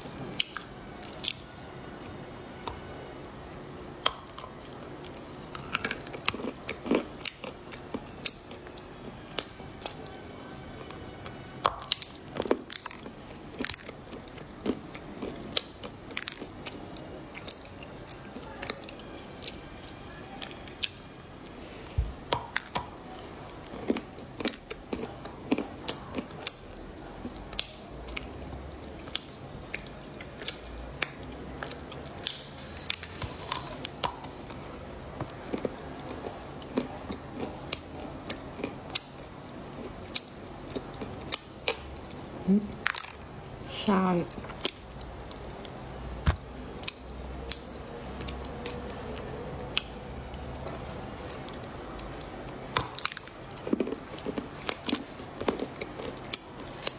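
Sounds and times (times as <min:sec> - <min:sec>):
crunchy chocolate chewing: 0:04.0 - 0:19.8, 0:22.2 - 0:43.4, 0:44.2 - 0:56.9.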